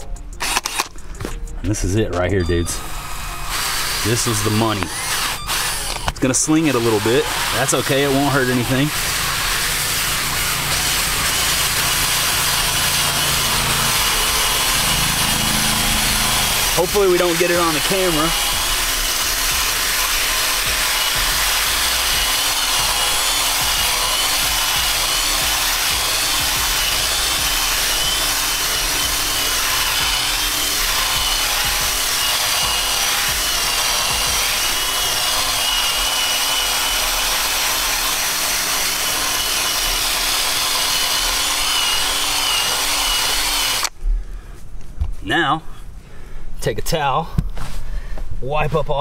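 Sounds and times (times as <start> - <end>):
cordless drill motor whine: 0.4 - 0.9, 2.2 - 44.0.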